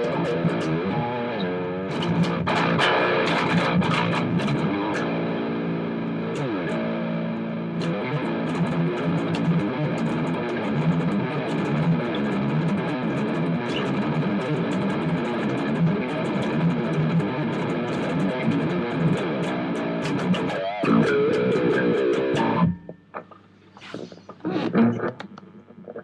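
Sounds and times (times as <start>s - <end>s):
guitar plucked and strummed: 0.0s - 26.0s.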